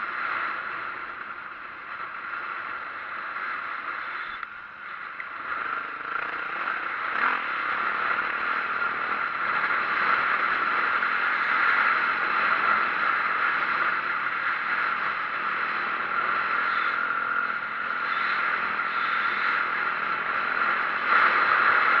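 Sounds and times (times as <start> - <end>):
dirt bike engine and wind rush: 0.0 - 22.0.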